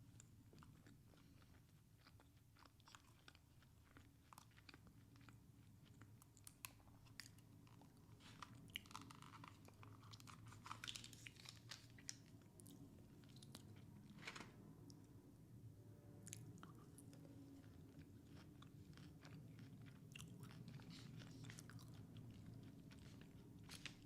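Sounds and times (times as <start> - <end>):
crunchy chewing: 0.5 - 13.9, 16.2 - 24.0.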